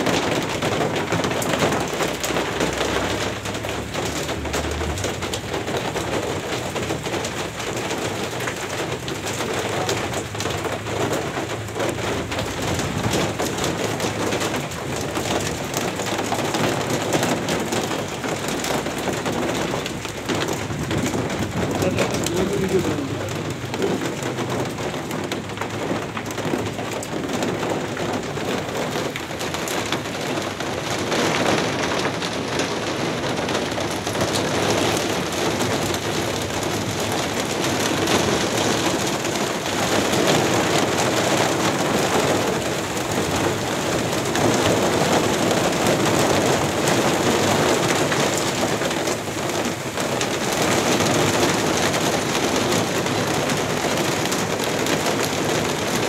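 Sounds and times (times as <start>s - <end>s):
heavy rain on hard surfaces: 0.0s - 56.0s.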